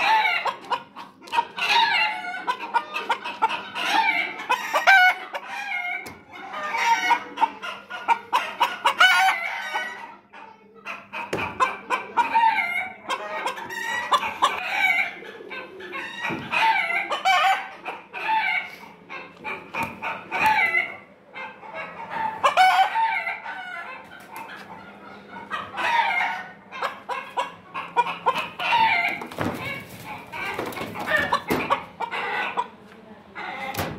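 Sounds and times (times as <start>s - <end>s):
chickens clucking and crowing: 0.0s - 33.9s.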